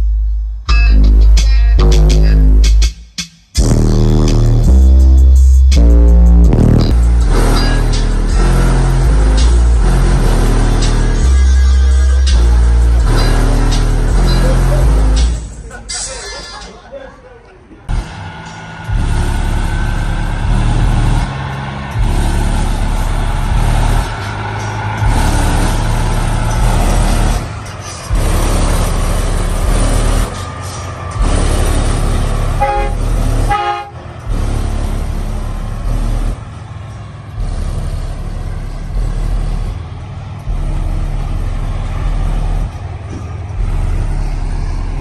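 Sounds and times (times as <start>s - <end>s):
bass-heavy music through subwoofer: 0.0s - 16.6s, 17.9s - 36.4s, 40.4s - 45.0s.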